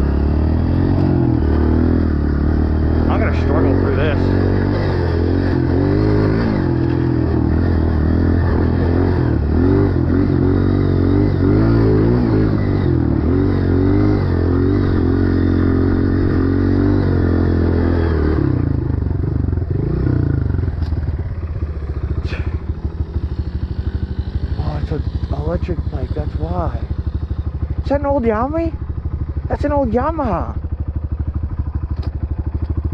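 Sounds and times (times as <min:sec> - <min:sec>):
dirt bike engine revving: 0:00.0 - 0:30.6.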